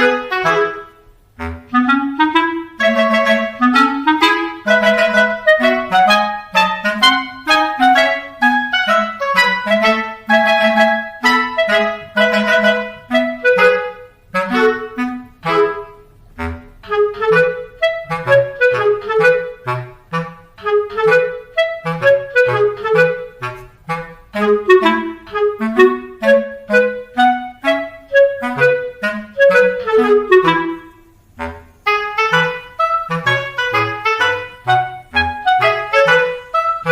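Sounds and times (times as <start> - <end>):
bouncy clarinet-like tune: 0.0 - 36.9.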